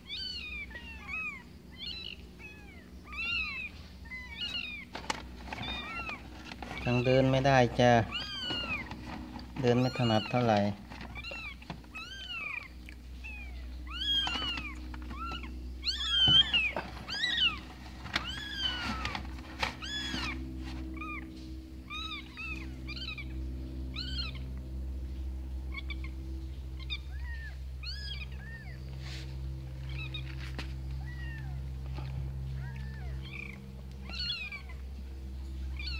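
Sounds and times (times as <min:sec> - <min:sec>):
kittens mewing: 0:00.0 - 0:24.5, 0:25.7 - 0:34.8, 0:35.6 - 0:35.9
steady low hum: 0:00.0 - 0:35.9.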